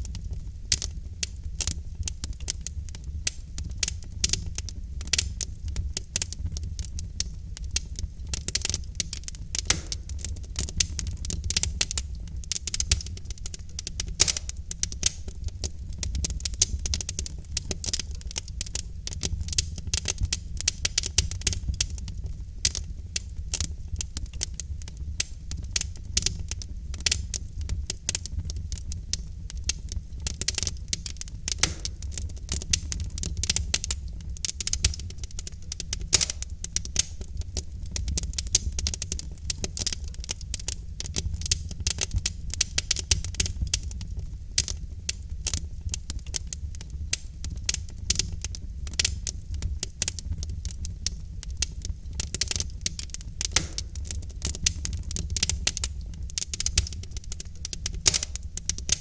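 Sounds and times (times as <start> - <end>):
wood logs crackling in fireplace: 0.0 - 59.0.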